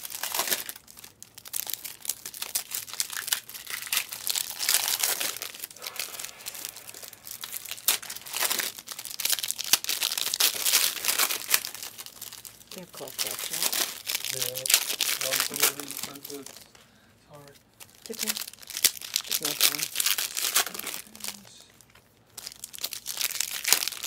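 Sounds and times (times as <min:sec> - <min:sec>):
wrappers being torn and crinkled: 0:00.0 - 0:16.8, 0:17.8 - 0:24.0.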